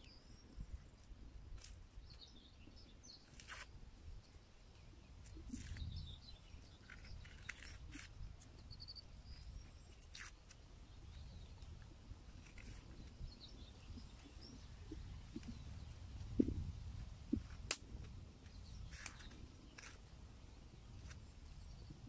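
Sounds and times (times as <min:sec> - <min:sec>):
songbird chirps and trills: 0:00.0 - 0:22.0.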